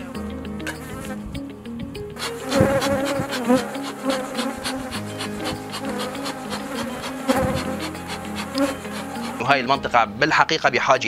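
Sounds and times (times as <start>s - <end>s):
bees buzzing: 0.0s - 1.5s, 2.2s - 9.8s
quiet background music: 0.0s - 11.0s.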